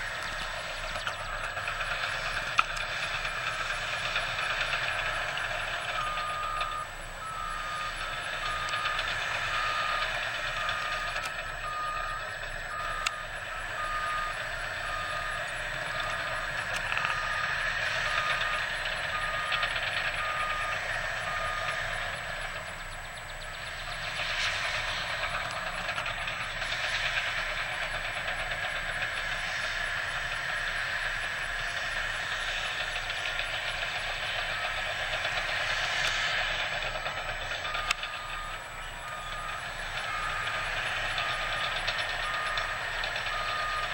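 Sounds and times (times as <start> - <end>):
diesel engine running: 0.0 - 43.9
reversing alarm beeping: 0.0 - 43.9.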